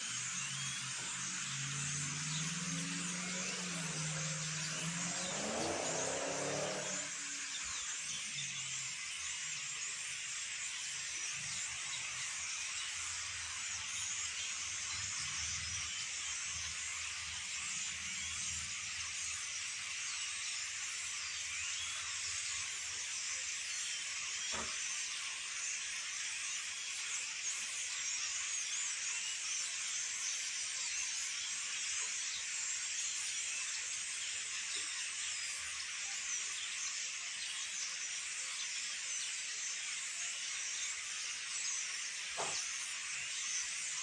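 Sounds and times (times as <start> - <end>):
flock of birds chirping: 0.0 - 44.0.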